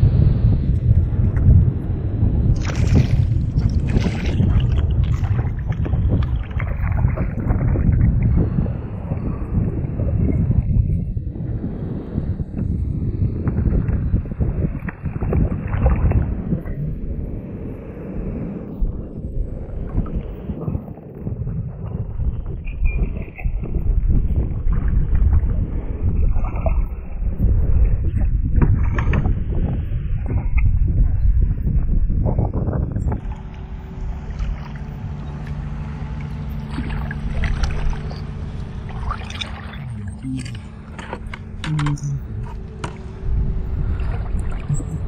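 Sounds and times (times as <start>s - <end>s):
low mechanical motor hum: 0.0s - 45.0s
wind buffeting microphone: 0.0s - 45.0s.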